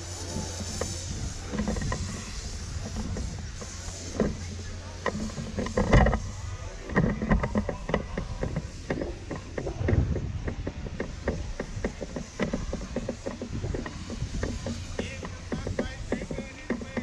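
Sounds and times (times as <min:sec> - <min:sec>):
steady low rumble: 0:00.0 - 0:17.0
footsteps on dock: 0:00.2 - 0:17.0.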